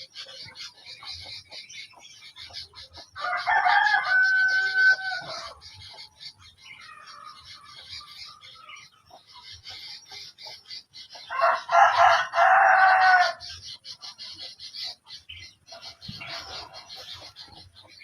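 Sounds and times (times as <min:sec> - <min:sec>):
high bird chirping: 0:00.0 - 0:18.0
loud bird call: 0:02.3 - 0:17.8.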